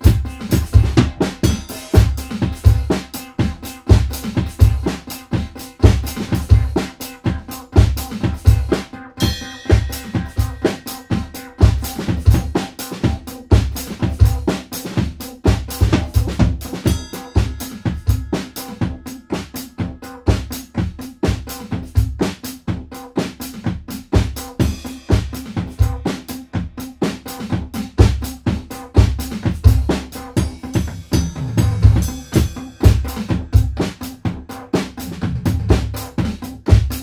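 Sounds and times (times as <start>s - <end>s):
drum kit playing: 0.0s - 37.0s.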